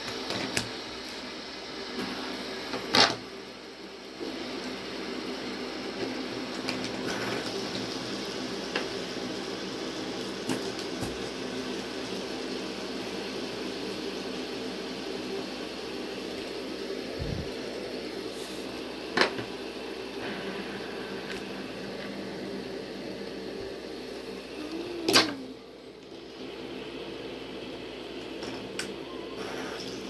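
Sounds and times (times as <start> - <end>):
fidget spinners whirring: 4.7 - 30.0.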